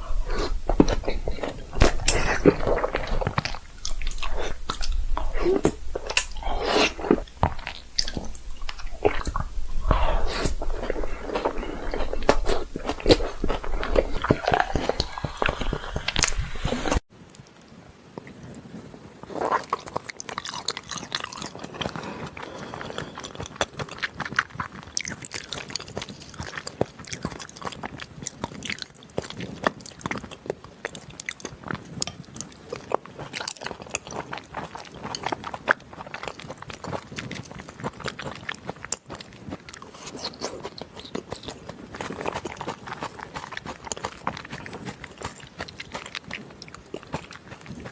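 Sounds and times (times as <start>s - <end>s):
wet chewing: 0.0s - 17.1s, 19.3s - 47.9s.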